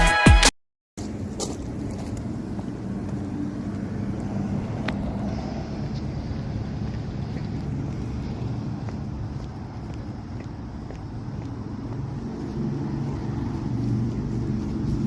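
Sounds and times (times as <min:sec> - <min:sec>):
low outdoor rumble: 0:01.0 - 0:15.0.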